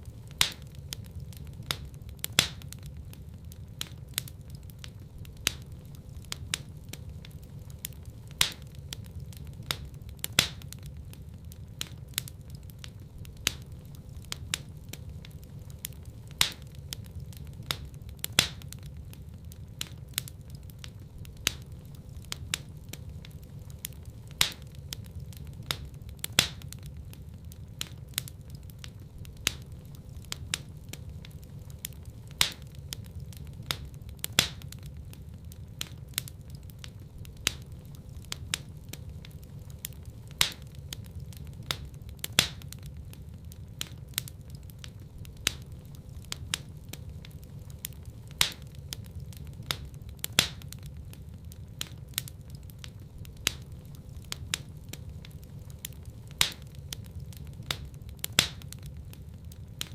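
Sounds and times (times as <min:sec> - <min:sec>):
low rumble of burning: 0:00.0 - 0:59.9
wood fire crackling and popping: 0:00.0 - 0:59.9.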